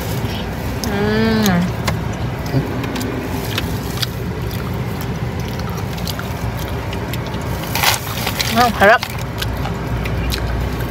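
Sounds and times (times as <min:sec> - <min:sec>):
car cabin rumble: 0:00.0 - 0:10.9.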